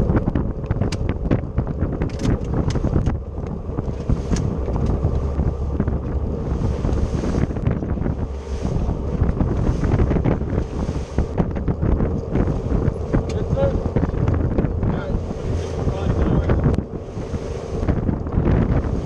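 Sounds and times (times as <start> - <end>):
boat engine drone: 0.0 - 19.0
boat slapping on water: 0.0 - 19.0
wind buffeting microphone: 0.0 - 19.0.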